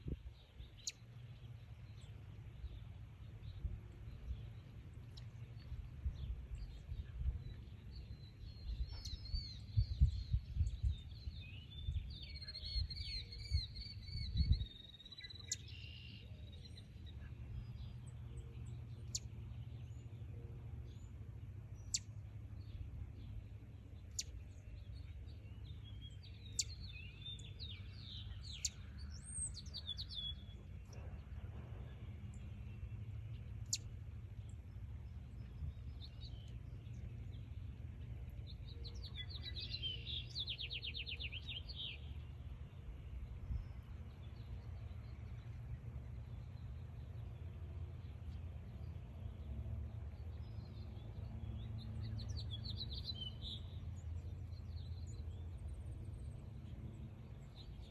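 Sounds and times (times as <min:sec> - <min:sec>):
low background rumble: 0:00.0 - 0:57.9.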